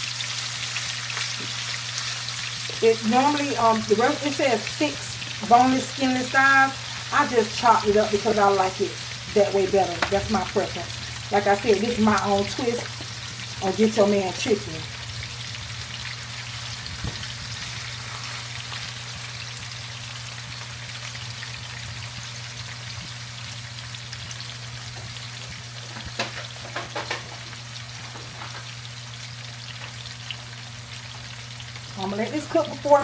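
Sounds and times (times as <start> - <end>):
chicken sizzling in a pan: 0.0 - 33.0
low even hum: 0.4 - 33.0.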